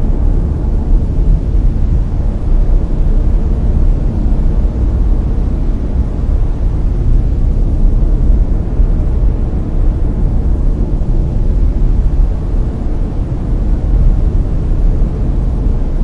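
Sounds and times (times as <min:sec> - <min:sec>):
deep brown noise hiss: 0:00.0 - 0:16.0.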